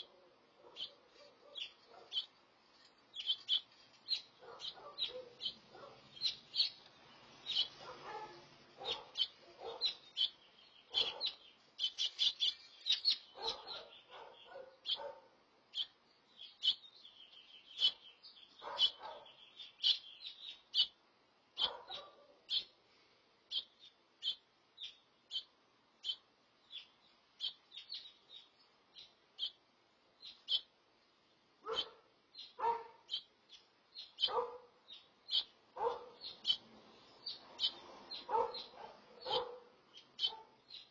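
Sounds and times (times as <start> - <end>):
finch chirping: 0.7 - 2.4, 3.1 - 15.1, 15.7 - 21.0, 21.6 - 22.8, 23.5 - 29.6, 30.2 - 30.8, 31.7 - 40.9.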